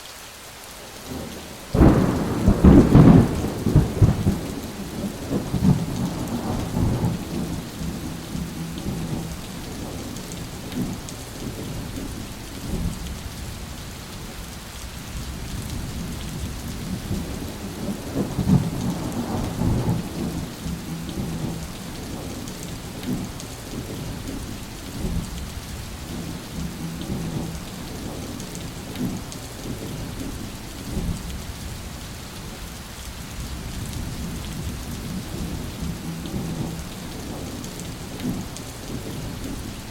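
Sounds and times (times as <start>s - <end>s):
heavy rain falling: 0.0s - 39.9s
rolling thunder rumbling: 1.7s - 13.6s, 15.1s - 31.8s, 33.4s - 39.9s.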